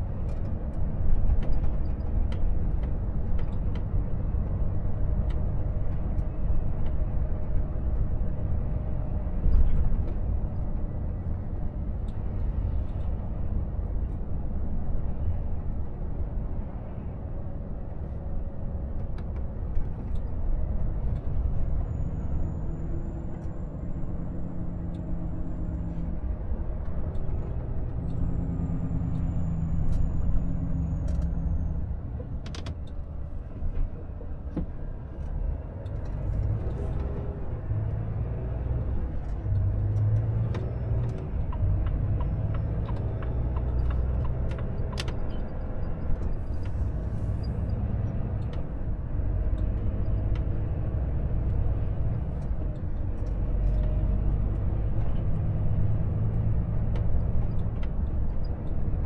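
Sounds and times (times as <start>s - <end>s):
road noise: 0.0s - 59.0s
truck diesel engine rumbling: 0.0s - 59.0s.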